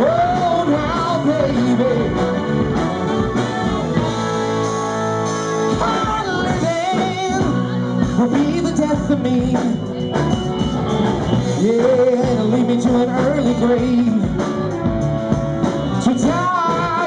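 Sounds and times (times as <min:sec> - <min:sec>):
person singing: 0:00.0 - 0:04.7, 0:05.3 - 0:10.4, 0:11.4 - 0:15.0, 0:15.9 - 0:17.0
saxophone: 0:00.0 - 0:08.2, 0:09.2 - 0:17.0
live rock band playing: 0:00.0 - 0:17.0.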